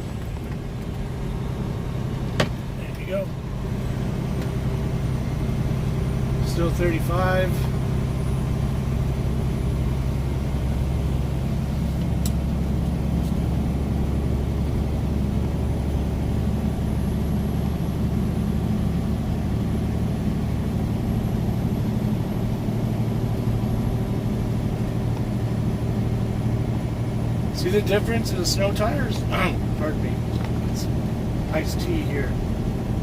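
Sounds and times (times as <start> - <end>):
tire and road noise: 0.0 - 33.0
truck diesel engine cruising: 0.0 - 33.0.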